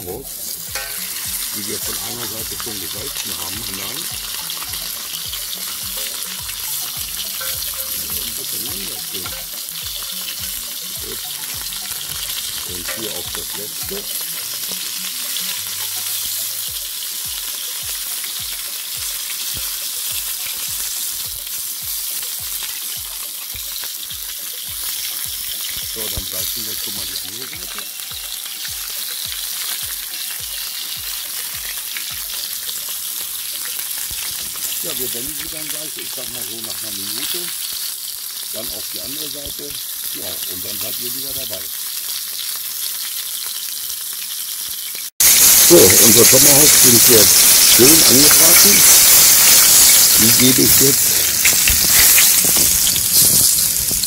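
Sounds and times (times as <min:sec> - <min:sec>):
steaks sizzling in oil: 0:00.0 - 0:54.0.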